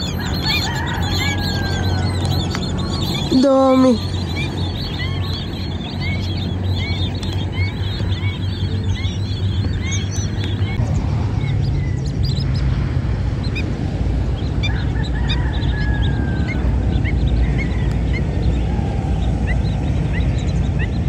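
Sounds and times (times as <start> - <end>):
flock of birds calling: 0.0 - 21.0
steady low rumble: 0.0 - 21.0.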